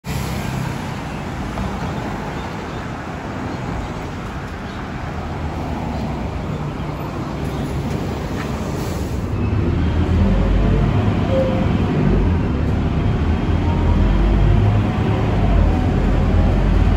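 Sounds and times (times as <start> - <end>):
bus engine rumble: 0.0 - 16.9
passing road traffic: 0.0 - 16.9.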